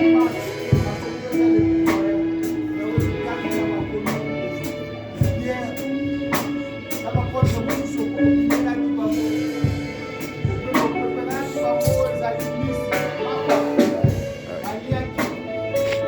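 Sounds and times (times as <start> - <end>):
held instrumental notes: 0.0 - 16.0
steady drum beat: 0.0 - 16.0.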